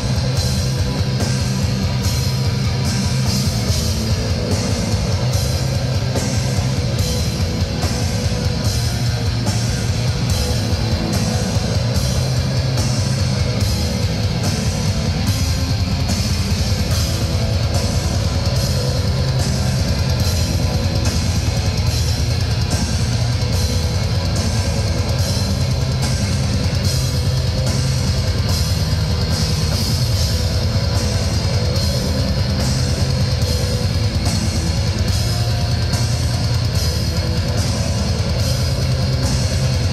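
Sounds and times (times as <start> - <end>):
metal band playing live: 0.0 - 39.9.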